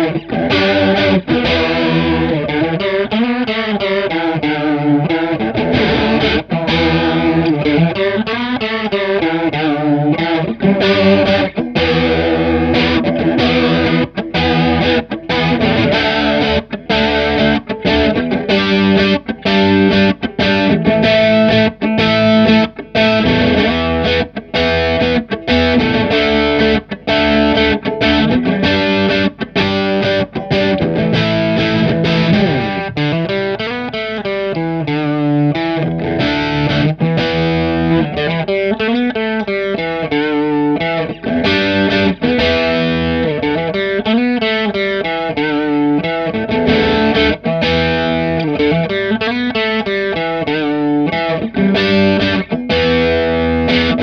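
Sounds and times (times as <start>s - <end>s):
overdriven electric guitar chords: 0.0s - 54.0s.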